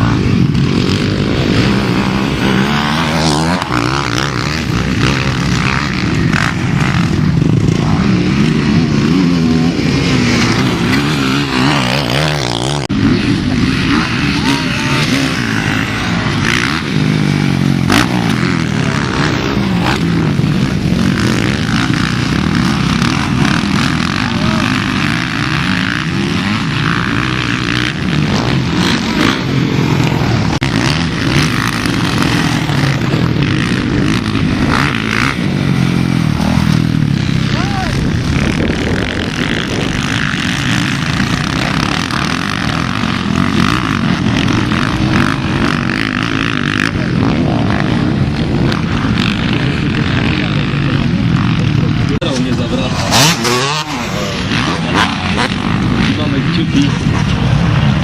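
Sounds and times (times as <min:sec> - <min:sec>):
motocross bike engines revving: 0:00.0 - 0:58.0.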